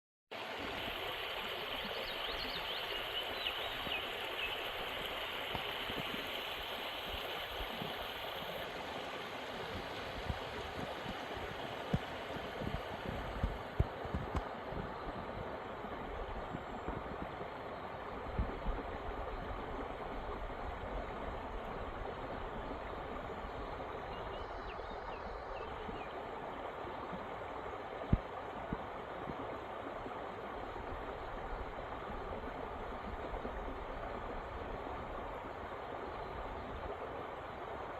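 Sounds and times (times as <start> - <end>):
creek water running: 0.3 - 37.9.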